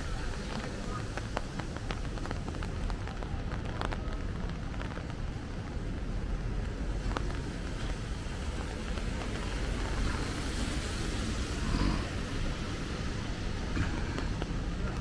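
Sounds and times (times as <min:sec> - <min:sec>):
traffic rumble: 0:00.0 - 0:15.0
tyres hissing on wet pavement: 0:00.0 - 0:15.0.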